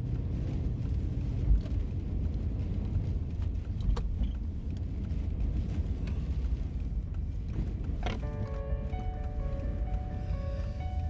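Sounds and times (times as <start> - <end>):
car driving low rumble: 0.0 - 11.0
wind: 0.0 - 11.0.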